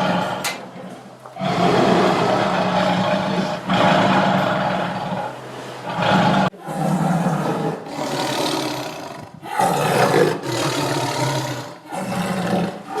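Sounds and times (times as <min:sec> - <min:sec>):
tiger roaring: 0:00.0 - 0:00.6, 0:01.4 - 0:13.0.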